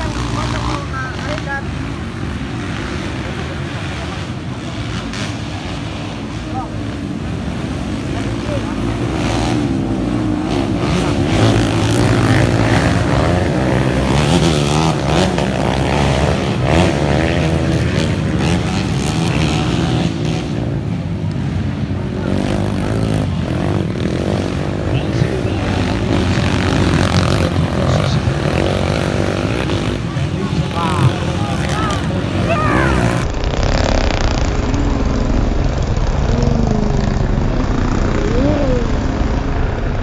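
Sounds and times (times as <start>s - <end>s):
racing motorcycles accelerating: 0.0s - 40.0s.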